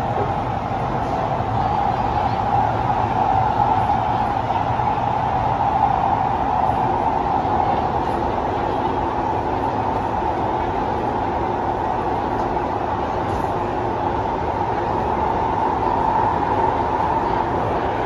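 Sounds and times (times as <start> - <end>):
constant hum: 0.0 - 18.0
wheels rumbling on rails: 0.0 - 18.0.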